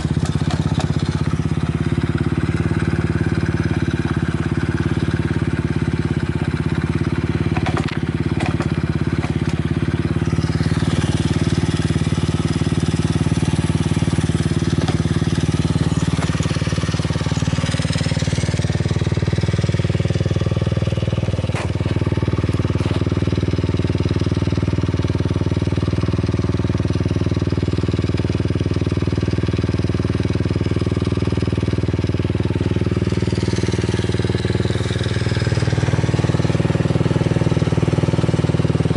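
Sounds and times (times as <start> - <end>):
small engine idling: 0.0 - 38.9.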